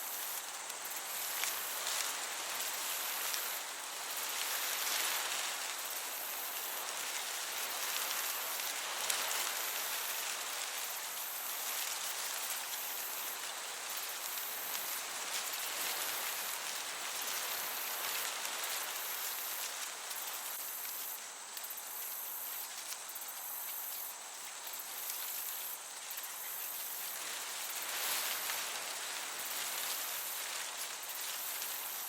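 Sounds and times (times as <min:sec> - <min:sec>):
breeze hissing: 0:00.0 - 0:32.0
crickets chirping: 0:00.0 - 0:32.0.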